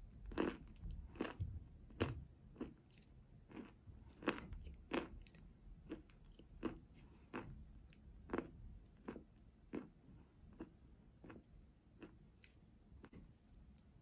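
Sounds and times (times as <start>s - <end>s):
crunching and chewing chalk: 0.0s - 14.0s.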